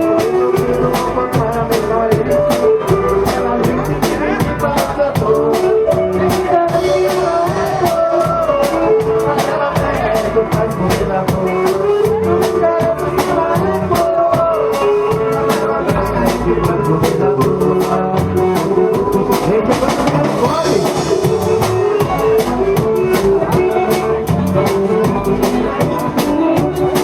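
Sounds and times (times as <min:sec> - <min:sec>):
accordion melody: 0:00.0 - 0:27.0
drum kit beat: 0:00.0 - 0:27.0.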